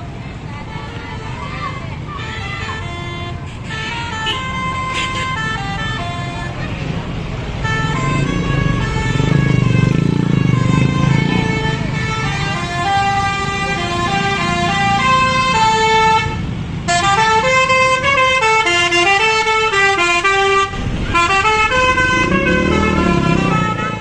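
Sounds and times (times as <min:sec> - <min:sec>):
musical bus air horn: 0:00.6 - 0:24.0.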